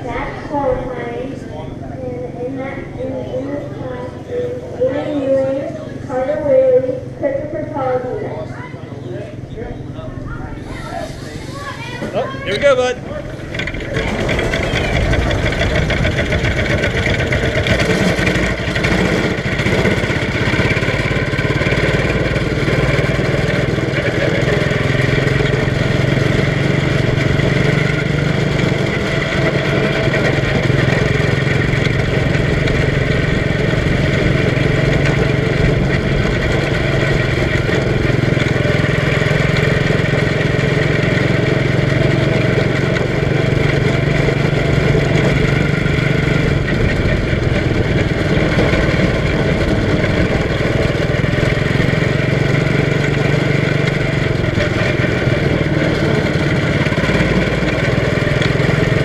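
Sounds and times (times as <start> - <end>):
small race car engine running: 0.0 - 59.0.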